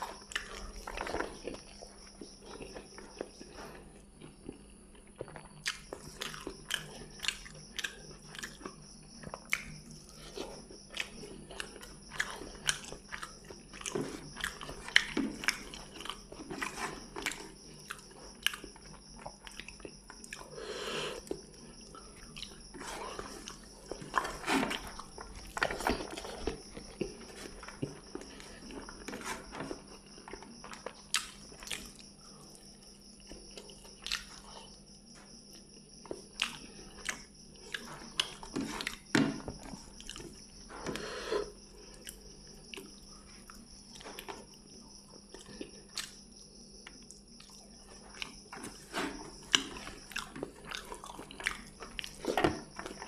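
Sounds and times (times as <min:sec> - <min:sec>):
person chewing and smacking: 0:00.0 - 0:20.6, 0:21.2 - 0:53.0.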